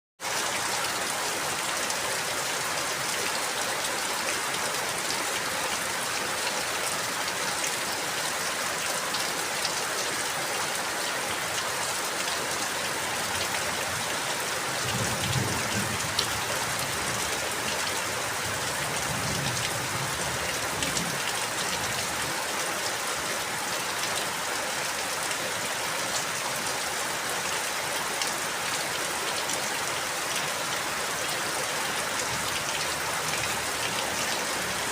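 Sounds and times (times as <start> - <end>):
steady rain patter: 0.2 - 34.9.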